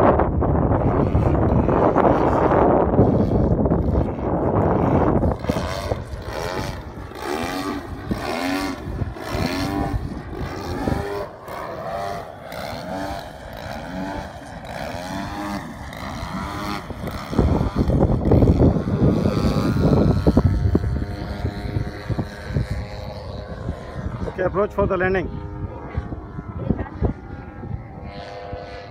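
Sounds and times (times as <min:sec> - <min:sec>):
model plane engine: 0:00.0 - 0:28.9
wind buffeting microphone: 0:00.0 - 0:28.9.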